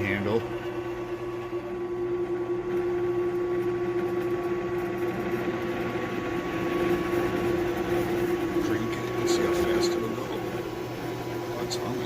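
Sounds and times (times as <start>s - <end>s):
drill press motor humming: 0.0s - 12.0s.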